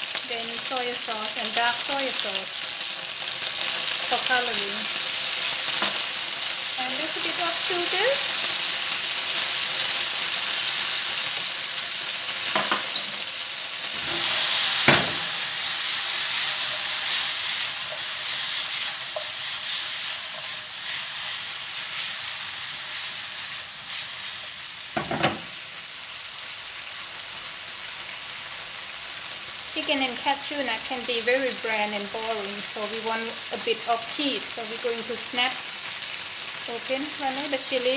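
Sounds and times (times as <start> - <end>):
food sizzling in a frying pan: 0.0 - 37.9.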